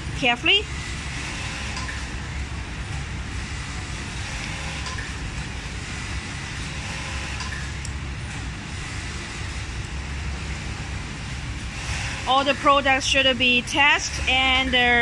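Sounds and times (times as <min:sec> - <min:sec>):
low rumble of machinery: 0:00.0 - 0:15.0.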